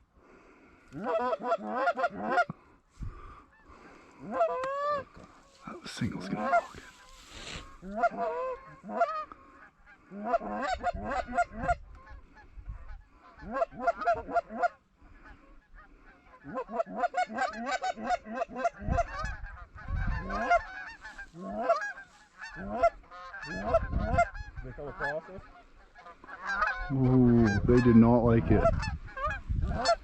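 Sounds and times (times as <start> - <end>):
geese honking and clucking: 0.0 - 30.0.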